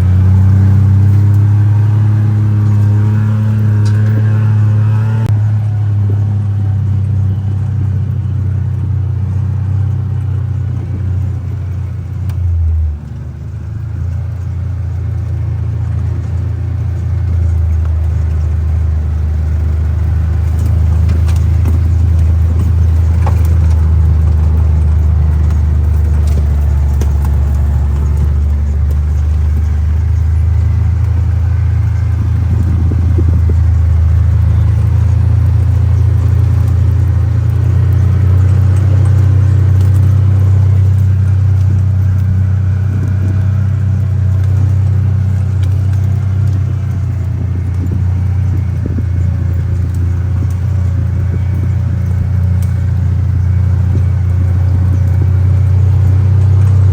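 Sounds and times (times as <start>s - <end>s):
utility vehicle engine droning: 0.0s - 56.9s
light knocks and rattles: 5.4s - 56.9s.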